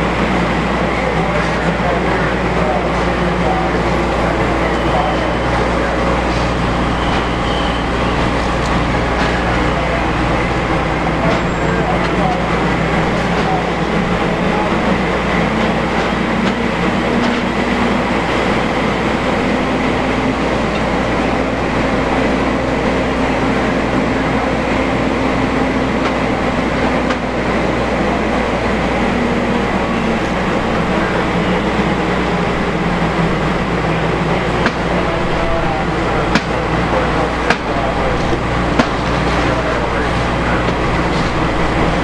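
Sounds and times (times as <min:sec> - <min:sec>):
diesel engine drone: 0:00.0 - 0:42.0.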